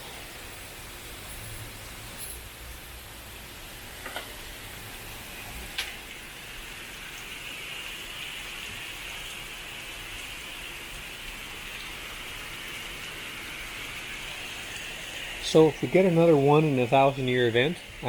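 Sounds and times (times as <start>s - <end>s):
falling water hiss: 0.0s - 18.0s.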